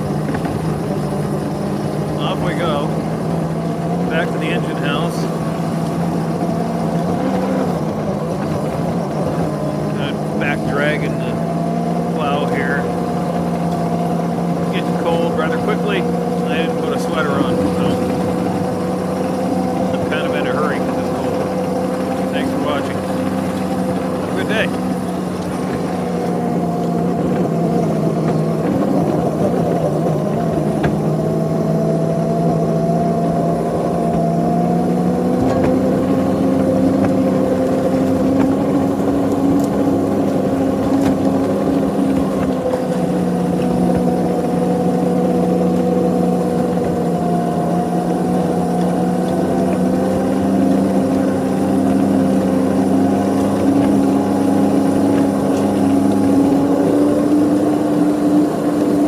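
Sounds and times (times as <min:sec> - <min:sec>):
locomotive engine running under load: 0:00.0 - 0:59.0.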